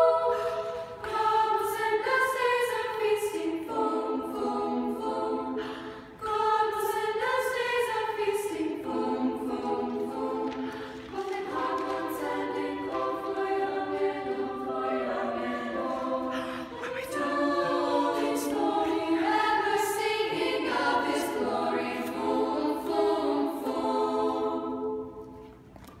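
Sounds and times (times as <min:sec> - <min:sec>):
choir singing a cappella: 0:00.0 - 0:25.6.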